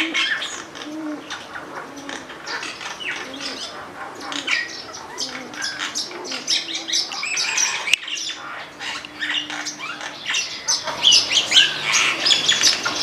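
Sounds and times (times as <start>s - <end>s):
birds chirping: 0.0s - 13.0s
low drawn-out bird notes: 0.0s - 13.0s.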